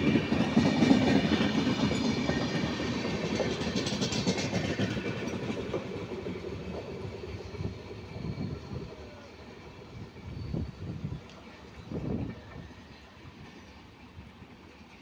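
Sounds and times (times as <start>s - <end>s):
passing train rumble: 0.0s - 15.0s.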